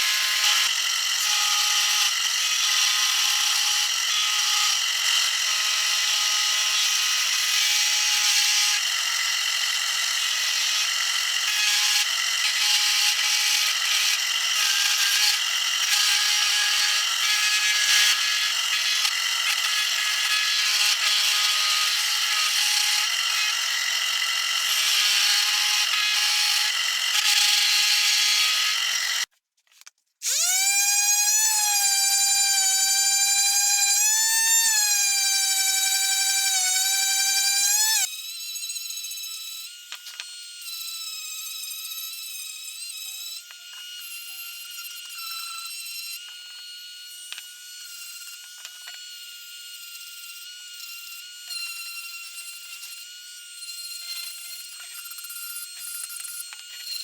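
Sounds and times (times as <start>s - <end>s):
power tool shaping wood: 0.0s - 29.3s, 30.2s - 38.1s, 39.1s - 57.0s.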